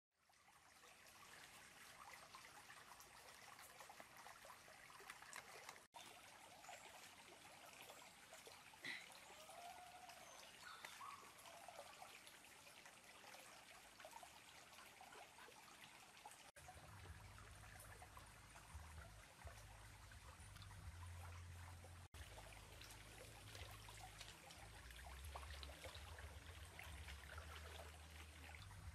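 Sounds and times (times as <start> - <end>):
stream trickling: 0.2 - 28.9.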